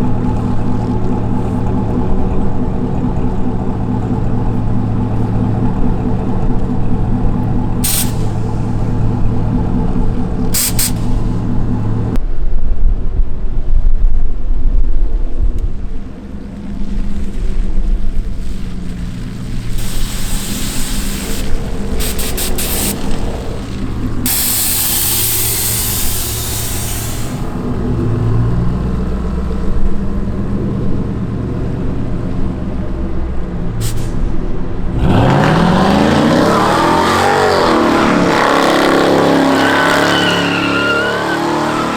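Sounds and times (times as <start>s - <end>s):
vehicle engine revving: 0.0s - 12.2s, 16.2s - 41.9s.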